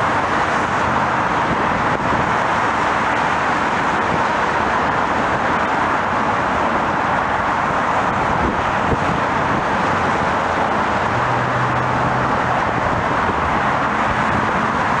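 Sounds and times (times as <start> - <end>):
distant engines roaring: 0.0 - 15.0.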